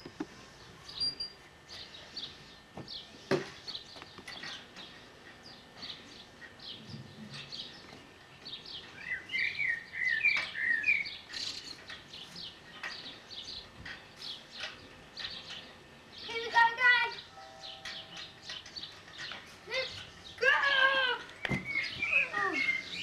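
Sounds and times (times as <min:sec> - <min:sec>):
small birds chirping: 0:00.4 - 0:23.0.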